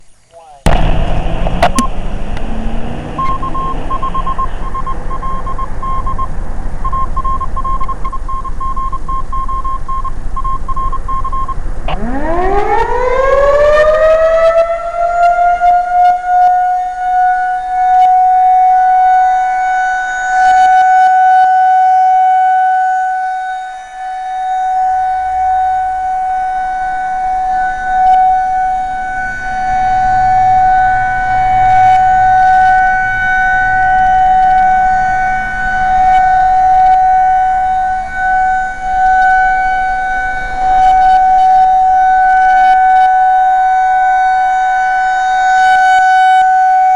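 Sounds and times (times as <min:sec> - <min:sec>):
warning siren steady tone: 0:00.0 - 0:46.9.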